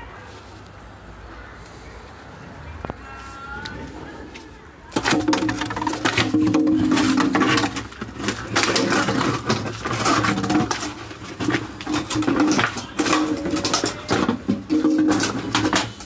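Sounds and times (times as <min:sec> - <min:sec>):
plastic bottle crackling on concrete: 0:02.8 - 0:16.0.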